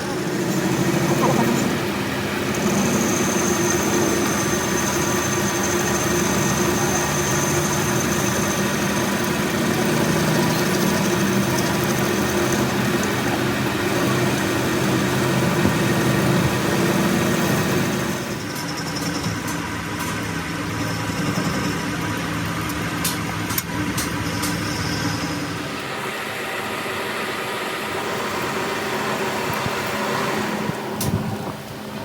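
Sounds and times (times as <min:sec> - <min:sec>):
metal lathe humming: 0:00.0 - 0:32.0.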